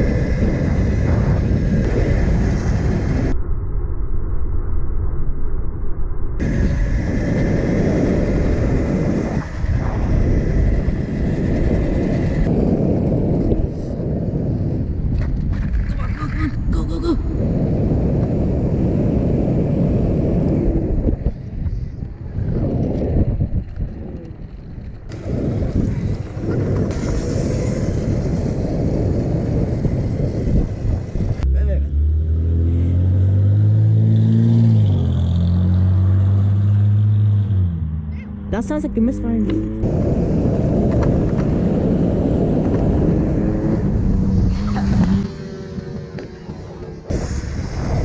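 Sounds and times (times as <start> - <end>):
wind buffeting microphone: 0.0 - 3.9, 6.4 - 31.5, 38.5 - 48.0.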